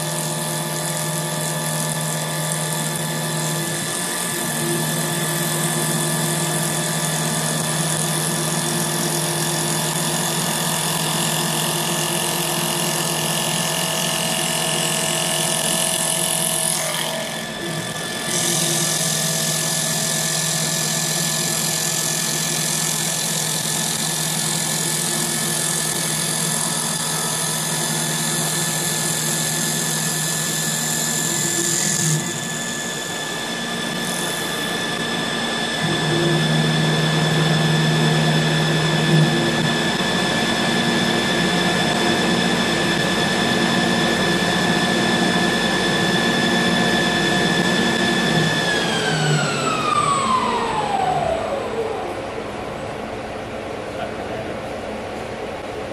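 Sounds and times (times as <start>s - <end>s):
wood lathe humming: 0.0s - 52.6s.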